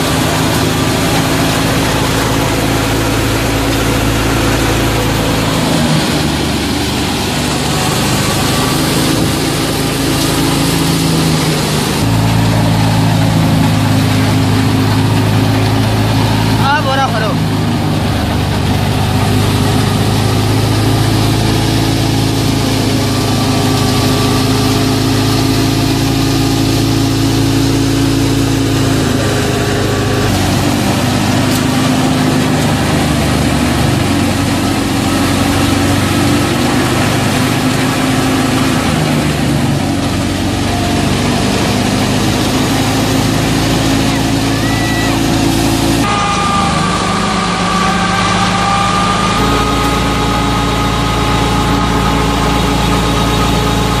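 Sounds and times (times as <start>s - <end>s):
threshing drum and fan rushing: 0.0s - 54.0s
tractor engine running: 0.0s - 54.0s.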